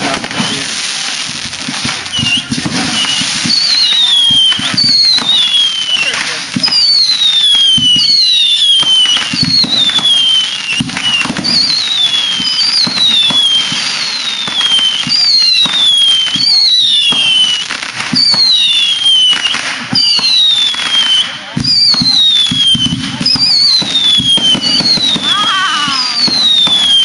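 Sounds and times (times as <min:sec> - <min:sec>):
firework whistles falling in pitch: 0:00.0 - 0:01.0, 0:01.9 - 0:27.0
dull firework bangs: 0:00.0 - 0:27.0
firework crackle: 0:00.0 - 0:27.0.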